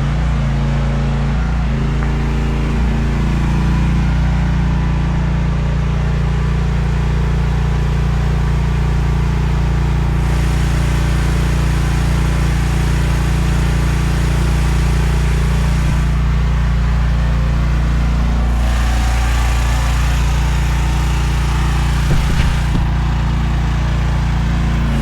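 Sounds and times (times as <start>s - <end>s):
excavator engine running: 1.4s - 25.0s.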